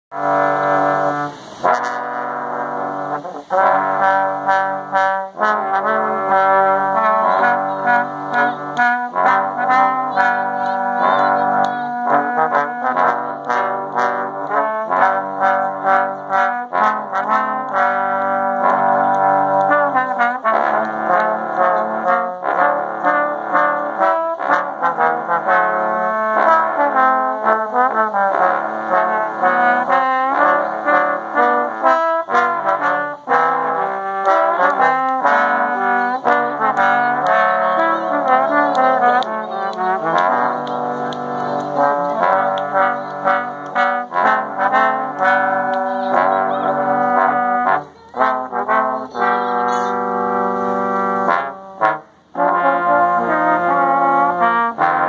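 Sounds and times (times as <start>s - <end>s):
trombone quartet playing harmony: 0.1s - 55.0s.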